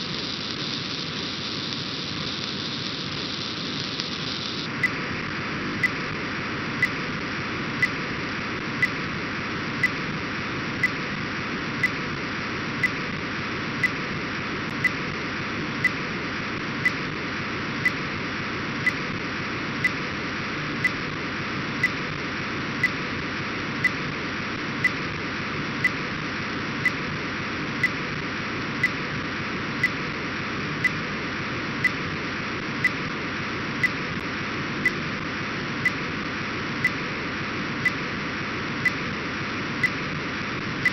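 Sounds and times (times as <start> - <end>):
steady data hiss: 0.0 - 40.9.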